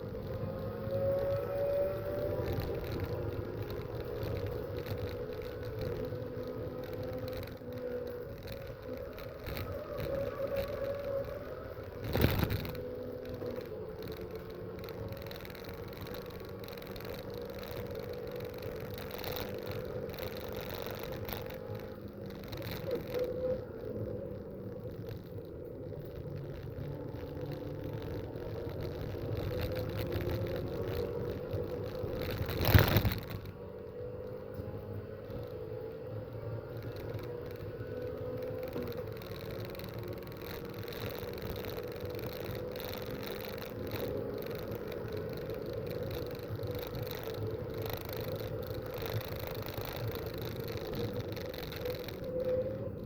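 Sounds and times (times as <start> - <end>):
racing car engines droning: 0.0 - 53.0.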